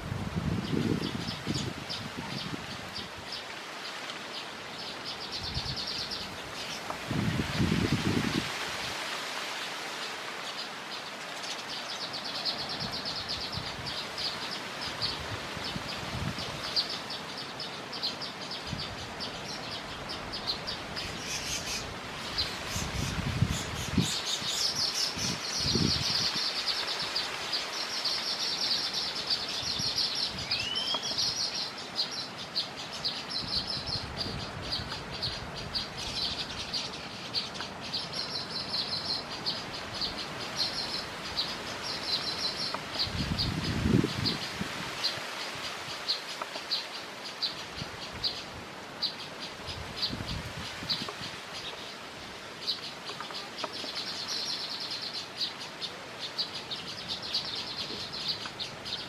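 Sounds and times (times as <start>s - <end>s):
small birds chirping: 0.4s - 59.0s.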